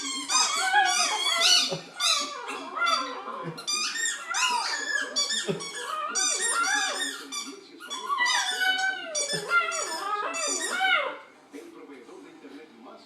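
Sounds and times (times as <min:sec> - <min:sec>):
dog making high-pitched calls: 0:00.0 - 0:11.2
squeaky toy squeaking: 0:00.0 - 0:11.3.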